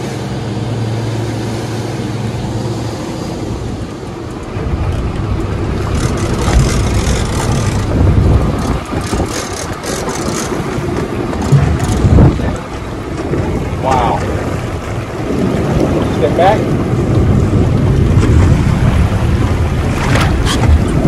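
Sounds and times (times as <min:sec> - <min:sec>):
boat engine droning: 0:00.0 - 0:21.0
rush of boat wake: 0:00.0 - 0:21.0
water splashing: 0:00.0 - 0:21.0
wind buffeting microphone: 0:00.0 - 0:21.0.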